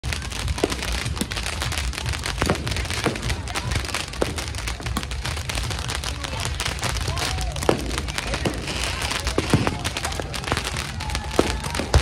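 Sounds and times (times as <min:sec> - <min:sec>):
firecrackers crackling: 0:00.0 - 0:12.0
loud firework bangs: 0:00.0 - 0:12.0.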